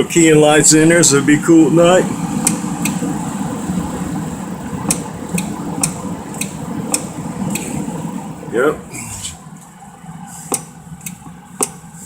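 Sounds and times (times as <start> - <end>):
cooling fan whirring: 0.0 - 12.0.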